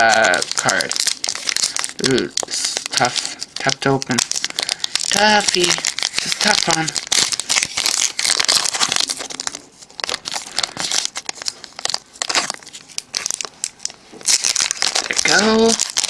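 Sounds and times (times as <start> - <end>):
foil wrapper crinkling and tearing: 0.0 - 16.0.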